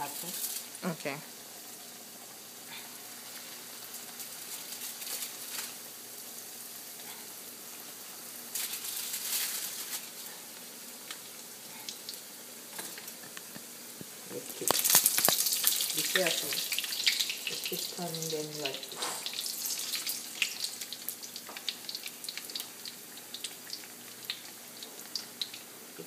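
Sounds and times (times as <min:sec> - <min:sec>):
batter sizzling in hot oil: 0:00.0 - 0:26.0.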